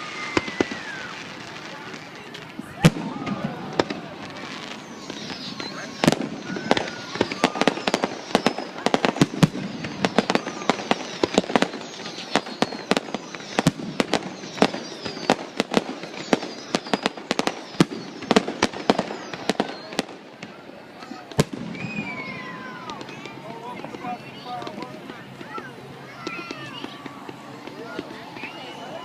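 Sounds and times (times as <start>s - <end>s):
fireworks bangs and crackles: 0.0s - 29.0s
fireworks whistles: 0.0s - 29.0s.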